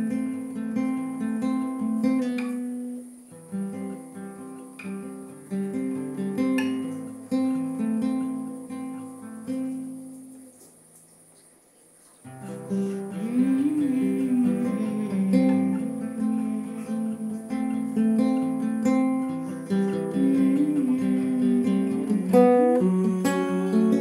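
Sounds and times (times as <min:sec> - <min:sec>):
acoustic guitar picking: 0:00.0 - 0:11.1, 0:12.2 - 0:24.0.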